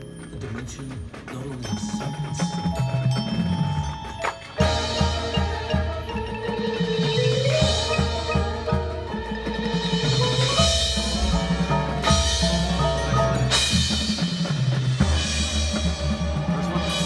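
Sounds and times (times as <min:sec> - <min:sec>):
drums and percussion: 0:00.0 - 0:17.0
marching band brass: 0:02.8 - 0:17.0.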